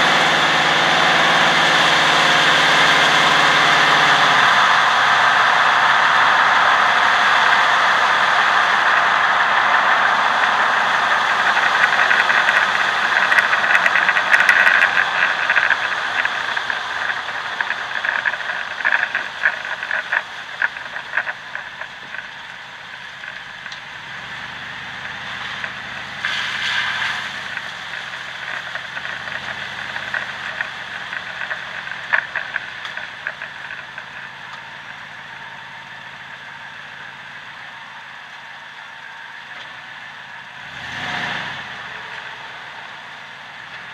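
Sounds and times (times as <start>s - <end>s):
rattles beneath moving truck: 0.0s - 23.8s, 24.4s - 37.1s
road and tyre noise: 0.0s - 43.9s.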